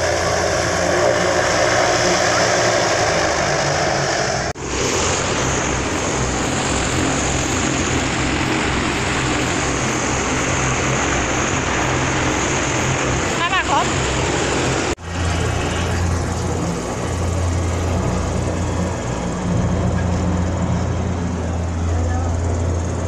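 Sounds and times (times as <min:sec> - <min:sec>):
airship propeller engines droning: 0:00.0 - 0:23.0.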